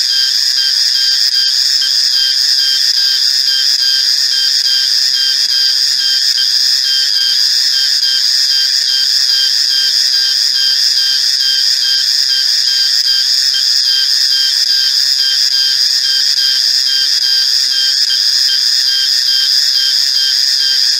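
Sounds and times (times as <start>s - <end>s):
cicadas buzzing: 0.0s - 20.9s.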